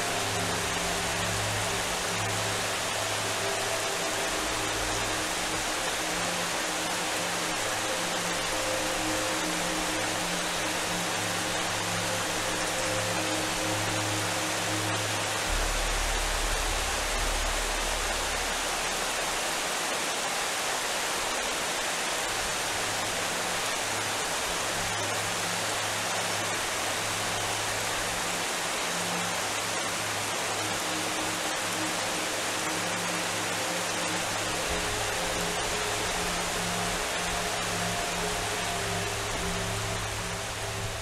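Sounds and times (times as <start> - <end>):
soft background music: 0.0 - 41.0
steady rushing hiss: 0.0 - 41.0.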